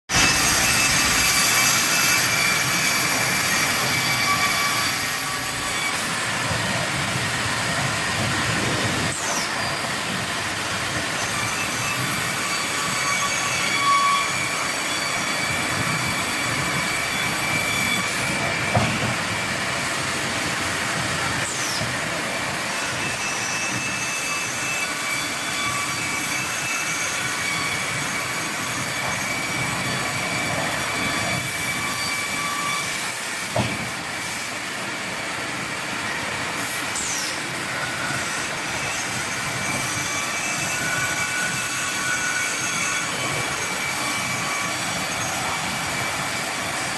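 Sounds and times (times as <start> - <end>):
sawmill machinery whining: 0.1 - 46.9.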